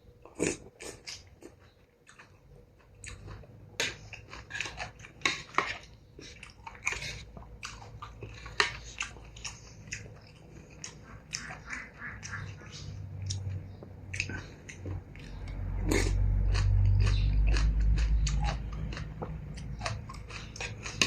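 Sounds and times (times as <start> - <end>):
person chewing: 0.2 - 21.0.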